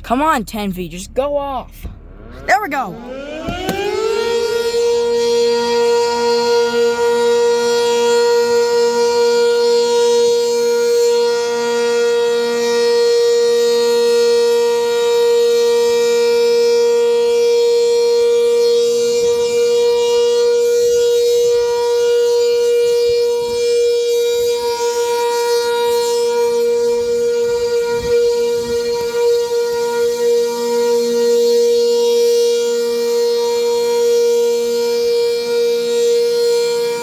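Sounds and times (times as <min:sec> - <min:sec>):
warning siren steady tone: 0:00.0 - 0:37.0.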